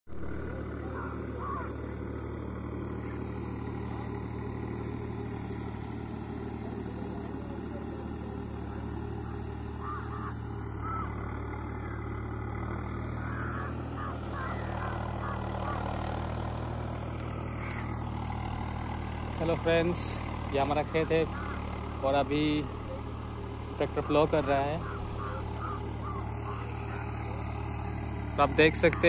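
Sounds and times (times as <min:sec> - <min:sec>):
tractor engine droning: 0:00.1 - 0:29.0
short bird calls: 0:00.2 - 0:05.2, 0:06.1 - 0:29.0.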